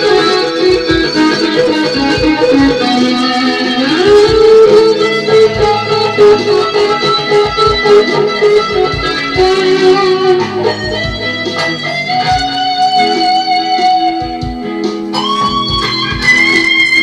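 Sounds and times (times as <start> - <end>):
electric guitar playing: 0.0 - 17.0.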